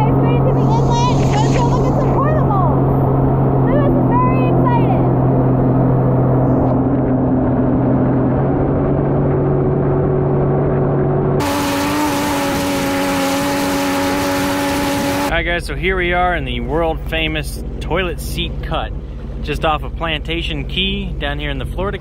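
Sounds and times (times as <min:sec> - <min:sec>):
jet ski engine: 0:00.0 - 0:10.5, 0:11.4 - 0:22.0.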